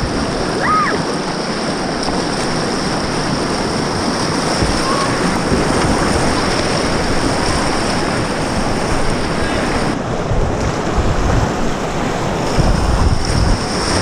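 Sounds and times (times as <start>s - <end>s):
whitewater rushing and splashing: 0.0s - 14.0s.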